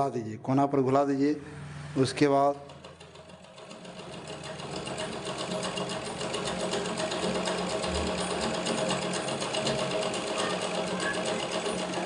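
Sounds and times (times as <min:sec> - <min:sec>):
overlock sewing machine running: 0:01.4 - 0:12.0.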